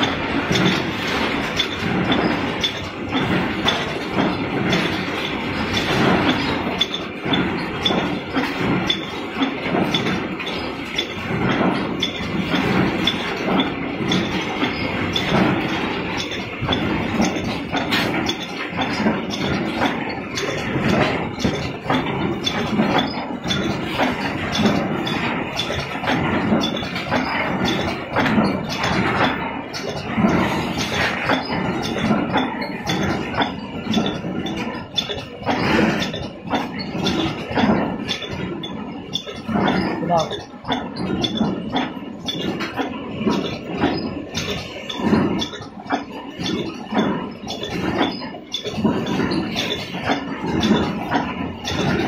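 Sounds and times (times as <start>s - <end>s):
packaging machine clattering: 0.0s - 52.0s.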